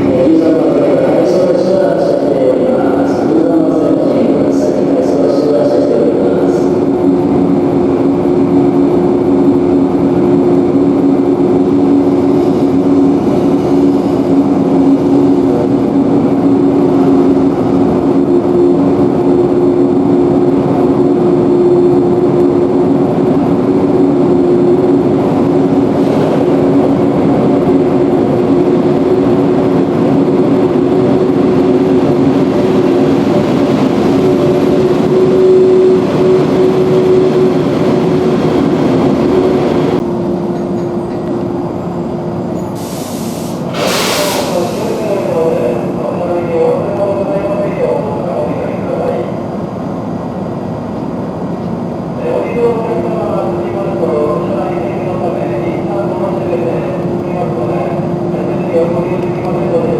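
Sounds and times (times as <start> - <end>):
train equipment humming: 0.0 - 59.9.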